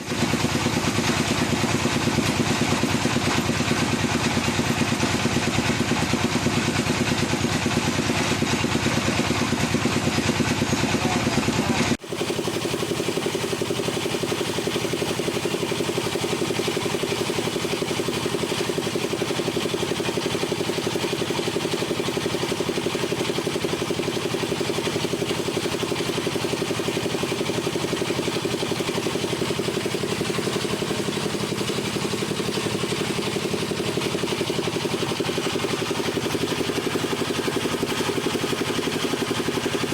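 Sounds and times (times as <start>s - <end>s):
wood lathe running: 0.0s - 39.9s.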